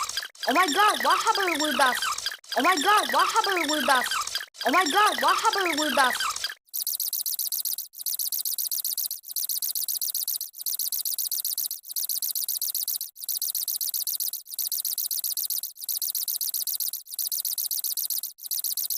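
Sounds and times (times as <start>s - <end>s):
cricket chirping: 0.0s - 18.9s.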